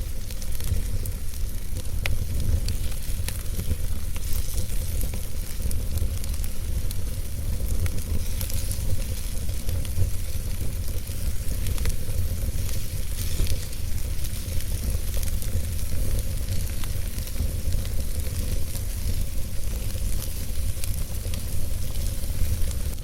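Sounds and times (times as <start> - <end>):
fire flames rumbling and hissing: 0.0 - 23.0
logs crackling and popping: 0.0 - 23.0.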